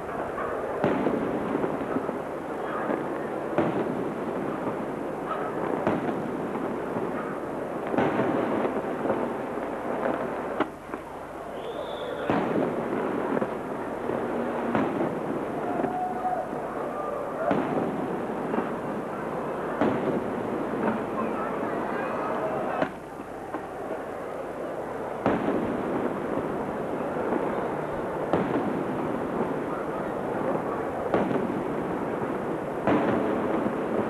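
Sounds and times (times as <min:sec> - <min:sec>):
fireworks bursting with bangs: 0:00.0 - 0:34.0
steady noisy background: 0:00.0 - 0:34.0.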